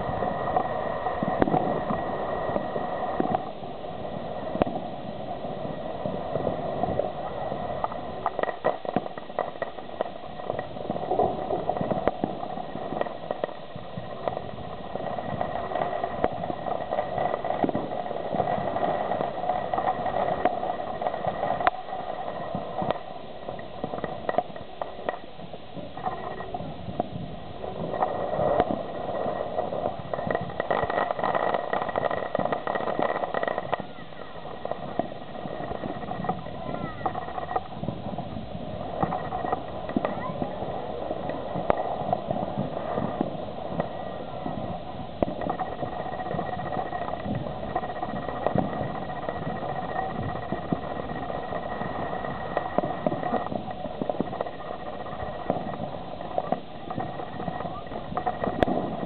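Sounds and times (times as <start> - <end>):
fountain fireworks hissing: 0.0 - 59.0
rapid crackling: 0.0 - 59.0.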